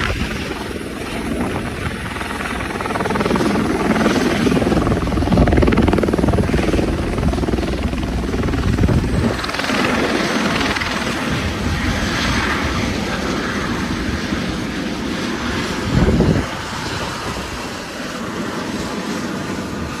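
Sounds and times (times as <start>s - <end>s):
helicopter rotor chop: 0.0s - 20.0s.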